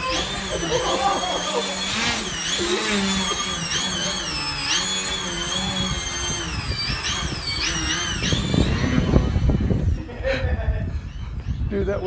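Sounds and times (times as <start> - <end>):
model airplane motor whine: 0.0 - 10.0
wind rumbling on microphone: 1.8 - 12.0.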